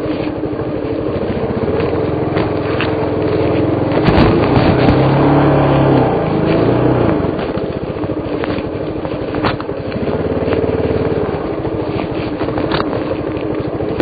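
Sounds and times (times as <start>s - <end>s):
motorcycle engine under load: 0.0s - 14.0s.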